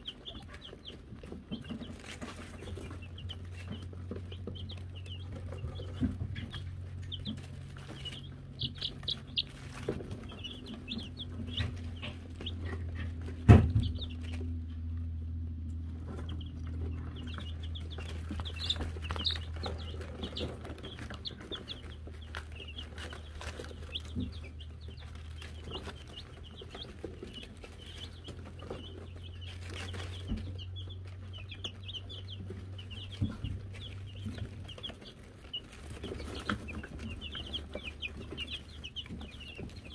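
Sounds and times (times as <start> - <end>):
chicks peeping: 0.0 - 39.9
low hum: 2.6 - 34.8.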